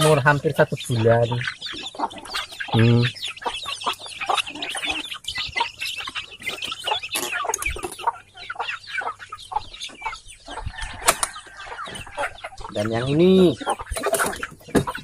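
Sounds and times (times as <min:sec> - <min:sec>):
young chickens peeping and clucking: 0:00.0 - 0:15.0.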